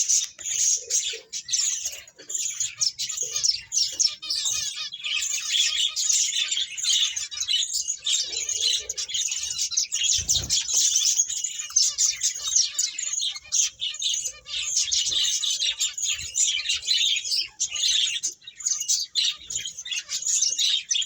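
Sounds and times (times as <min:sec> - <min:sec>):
finches chirping: 0:00.0 - 0:21.0.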